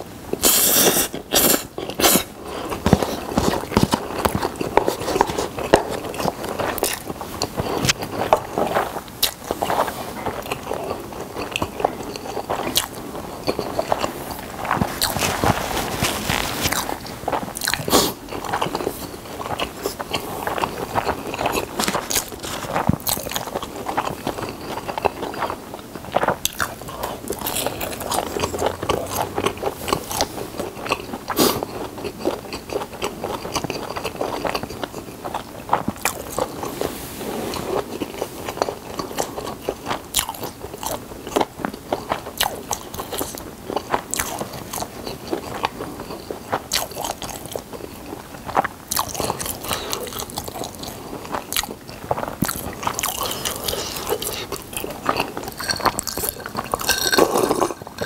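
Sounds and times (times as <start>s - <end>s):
biting and chewing dumpling: 0.3s - 37.0s, 37.6s - 58.0s.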